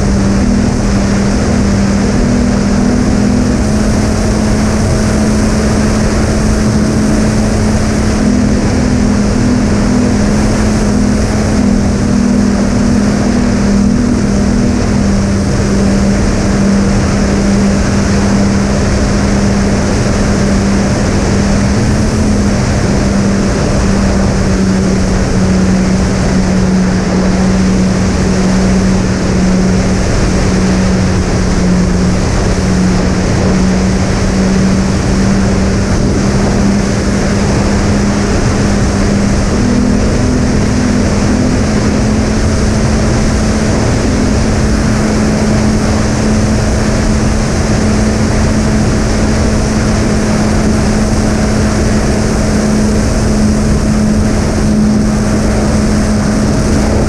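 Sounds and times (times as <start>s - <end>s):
electric motors humming: 0.0s - 57.0s
wind rush on microphone: 0.0s - 57.0s.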